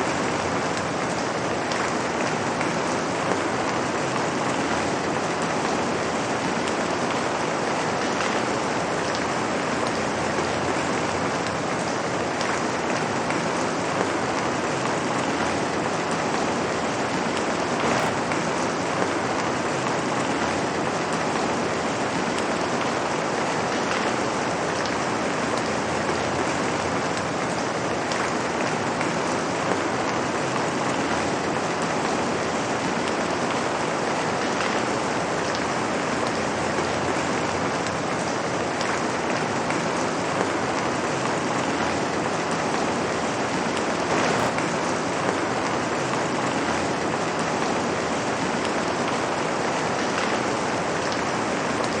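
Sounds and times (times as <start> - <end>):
light rain on pavement: 0.0 - 52.0.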